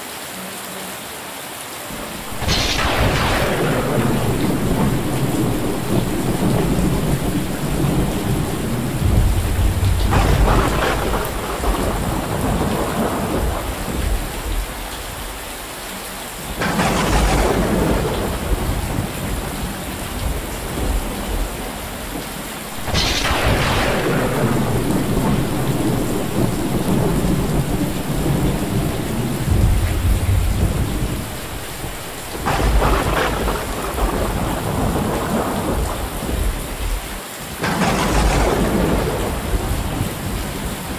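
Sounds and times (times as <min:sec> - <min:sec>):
rain on metal roofs: 0:00.0 - 0:40.9
thunder cracks and rumble: 0:02.0 - 0:14.9, 0:16.4 - 0:40.9.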